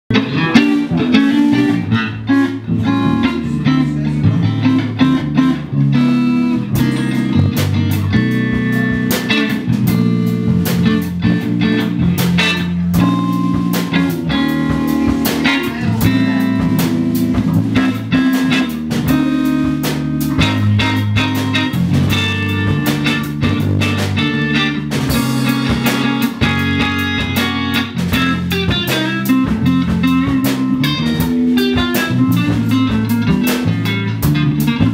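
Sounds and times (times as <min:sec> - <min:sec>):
drum kit: 0:00.1 - 0:34.9
electric bass line: 0:00.1 - 0:34.9
electric guitar: 0:00.1 - 0:34.9.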